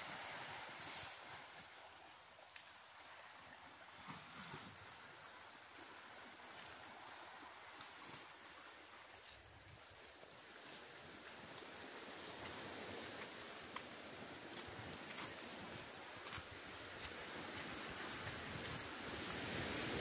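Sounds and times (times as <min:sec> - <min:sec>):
sea waves on rocky shore: 0:00.0 - 0:20.0.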